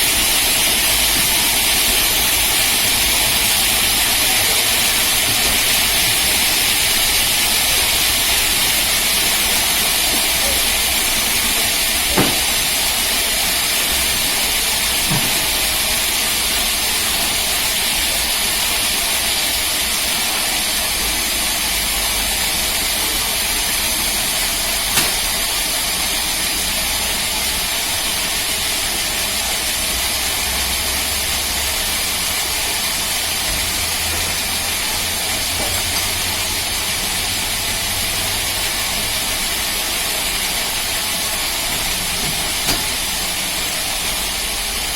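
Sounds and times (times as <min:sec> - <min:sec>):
band sawmill hissing: 0:00.0 - 0:44.9.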